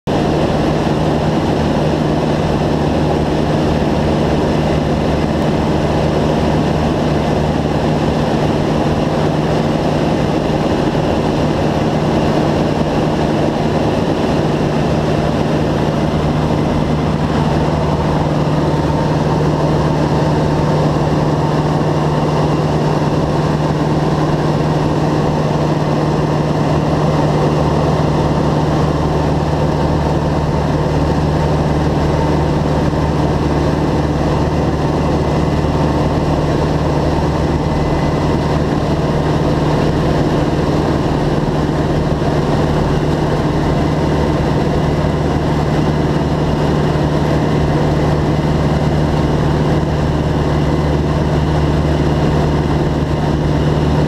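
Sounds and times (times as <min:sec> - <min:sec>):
plane engine and propeller humming: 0:00.0 - 0:54.0
thick rush of noise: 0:00.1 - 0:54.0.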